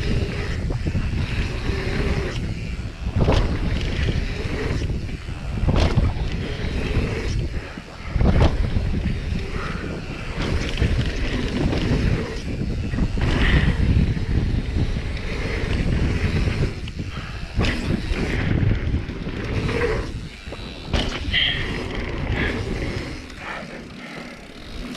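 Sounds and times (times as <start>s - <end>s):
bike tyre and chassis rattle: 0.0s - 24.9s
wind buffeting microphone: 0.0s - 24.9s.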